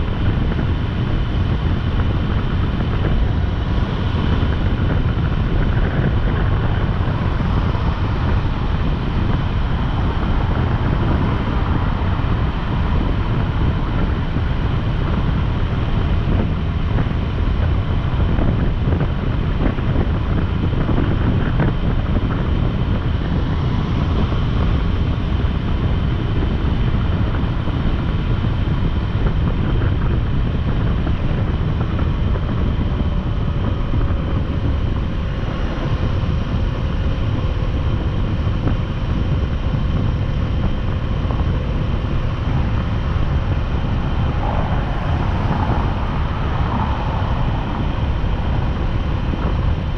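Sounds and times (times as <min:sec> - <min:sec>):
motorcycle engine running: 0:00.0 - 0:49.9
wind rush over microphone: 0:00.0 - 0:49.9.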